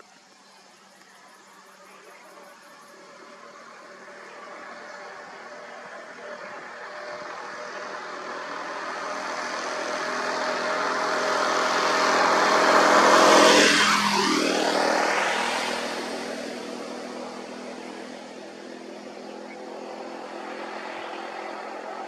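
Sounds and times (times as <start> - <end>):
small motorcycle passing by: 0.6 - 22.0.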